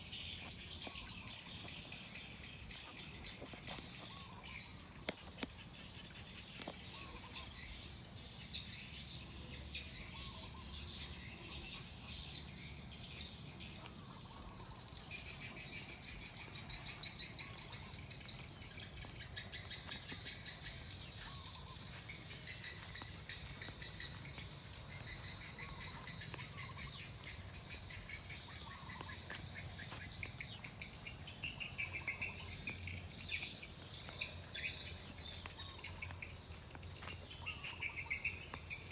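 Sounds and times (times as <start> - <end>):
insects trilling: 0.0 - 38.9
small birds chirping: 0.0 - 38.9.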